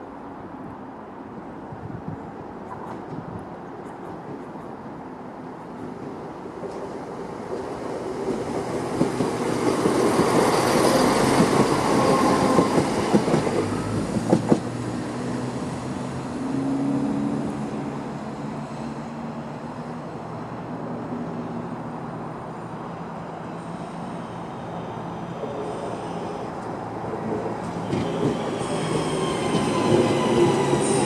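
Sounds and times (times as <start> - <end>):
train engine and wheel rush: 0.0 - 31.0.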